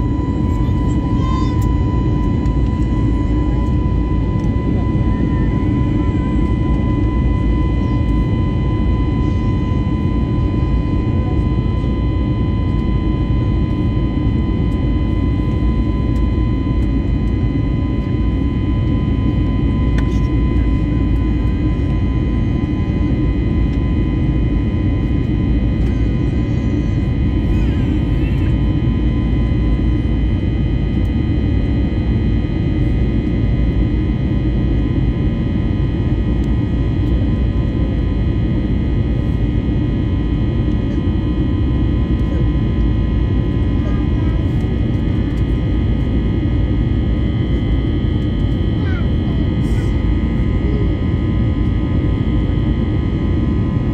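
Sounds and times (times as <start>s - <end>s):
jet engine high whine: 0.0s - 53.9s
jet engine low roar: 0.0s - 53.9s.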